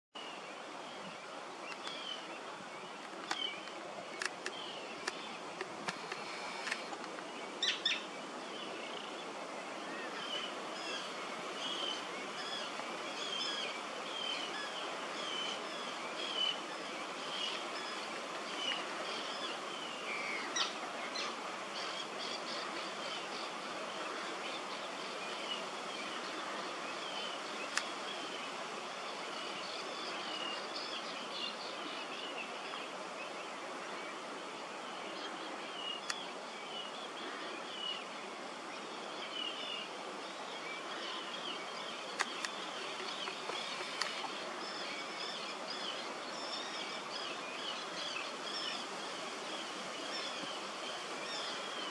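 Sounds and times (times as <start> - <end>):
outdoor hiss: 0.2 - 51.9.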